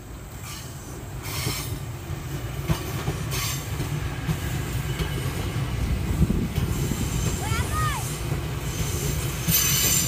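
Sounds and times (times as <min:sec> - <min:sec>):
train rumble: 0:00.0 - 0:10.0
wheel-on-rail hiss: 0:00.0 - 0:10.0.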